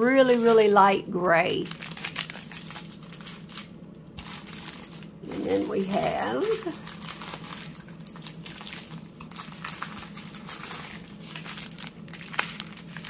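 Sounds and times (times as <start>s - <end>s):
plastic bags crinkling: 0.0s - 13.0s
steady low hum: 0.0s - 13.0s.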